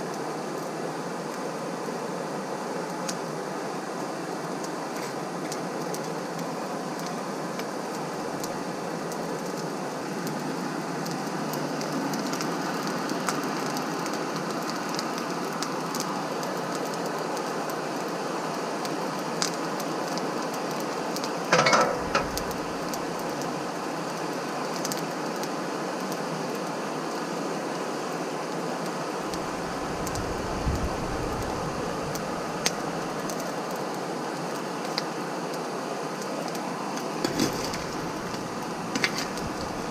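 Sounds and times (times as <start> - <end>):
coals crackling and ticking: 0.0 - 39.9.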